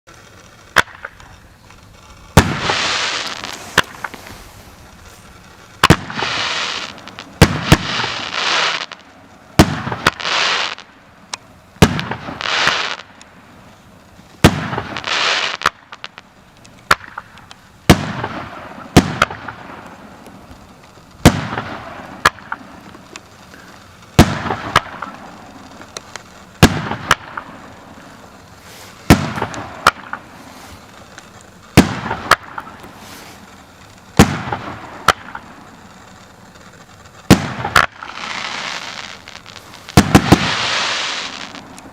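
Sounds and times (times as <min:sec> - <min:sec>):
firework bangs: 0:00.1 - 0:41.9
firework hissing: 0:00.1 - 0:41.9.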